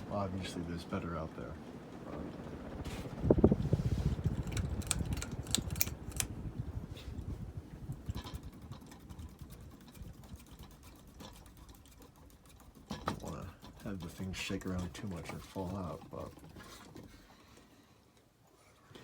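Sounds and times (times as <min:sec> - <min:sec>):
ceiling fan rattling and clicking: 0:00.0 - 0:19.0.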